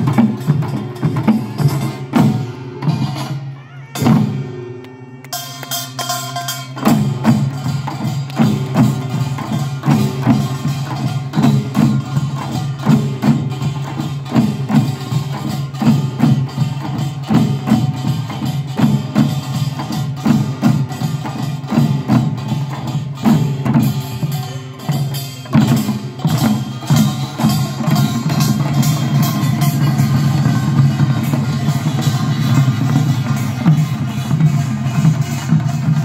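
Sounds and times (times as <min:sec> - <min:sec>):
drums beating a rhythm: 0:00.0 - 0:36.0
metal gongs ringing: 0:05.3 - 0:19.6, 0:20.2 - 0:36.0.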